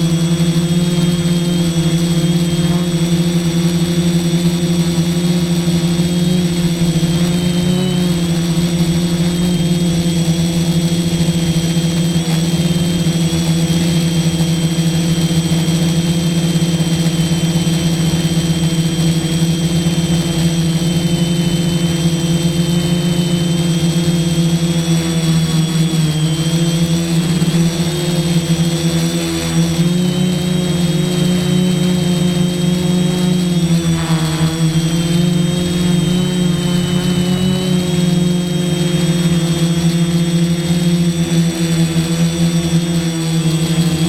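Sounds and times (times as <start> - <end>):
quadcopter motors droning: 0.0 - 44.0.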